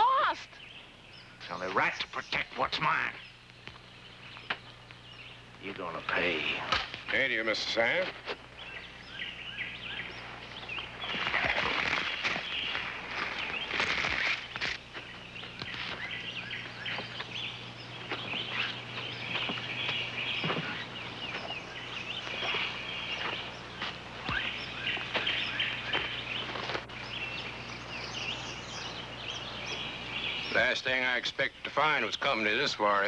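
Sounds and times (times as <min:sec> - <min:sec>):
birds chattering: 0:00.0 - 0:33.0
steady low hum: 0:00.0 - 0:33.0.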